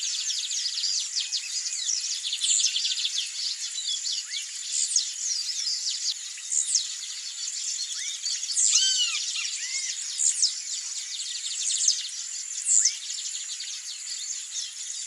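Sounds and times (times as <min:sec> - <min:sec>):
bird singing high song: 0:00.0 - 0:15.0
small birds chirping and trilling: 0:00.0 - 0:15.0.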